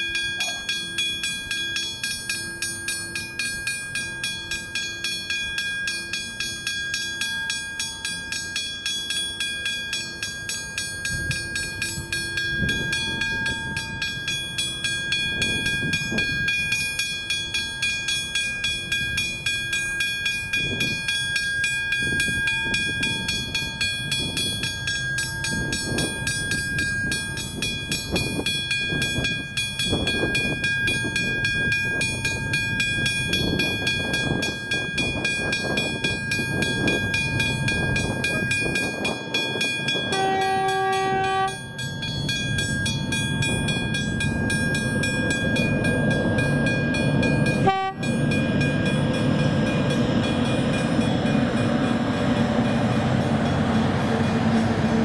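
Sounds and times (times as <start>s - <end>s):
level crossing bell ringing: 0.0s - 54.4s
low rumble of approaching train: 0.0s - 55.0s.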